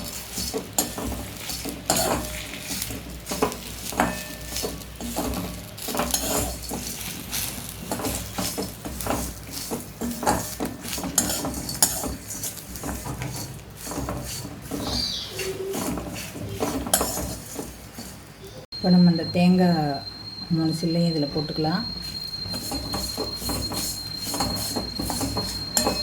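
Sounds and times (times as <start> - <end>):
spatula scraping a pan: 0.0 - 18.4, 21.8 - 26.0.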